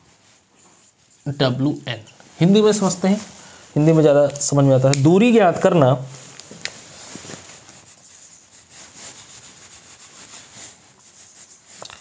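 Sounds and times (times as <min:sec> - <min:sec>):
rubbing and rustling: 0:00.0 - 0:12.0
steady hiss: 0:00.0 - 0:12.0.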